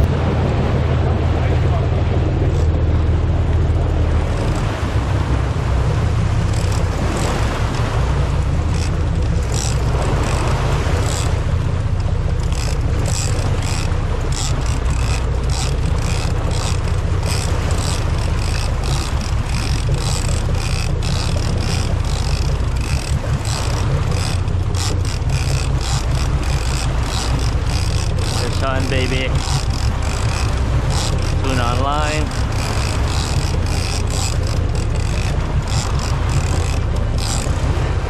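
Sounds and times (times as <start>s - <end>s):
boat engine drone: 0.0s - 38.0s
rushing water: 0.0s - 38.0s
wind: 0.0s - 38.0s.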